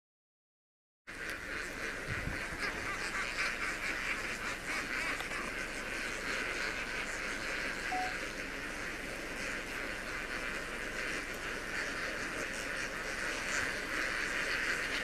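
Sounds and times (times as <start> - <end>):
flamingos honking: 1.1 - 15.0.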